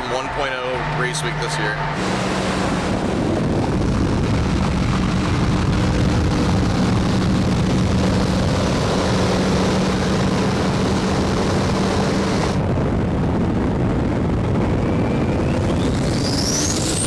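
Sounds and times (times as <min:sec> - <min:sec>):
low engine drone: 0:00.0 - 0:17.0
wind and road rush: 0:00.0 - 0:17.0.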